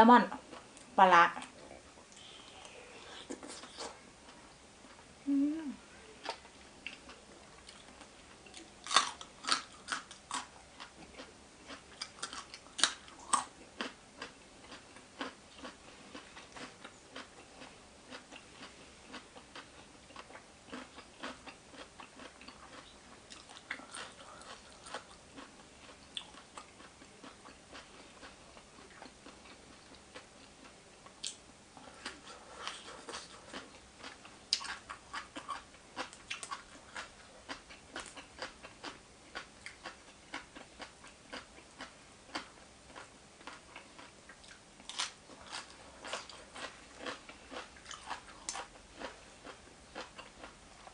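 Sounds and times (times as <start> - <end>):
person chewing and crunching food: 0.4 - 50.9.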